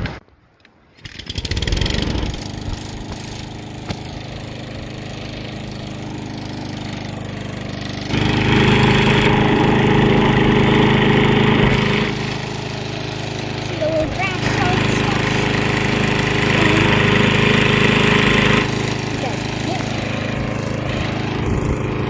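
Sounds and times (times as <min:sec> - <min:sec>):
lawnmower engine starting and running: 0:01.0 - 0:22.0.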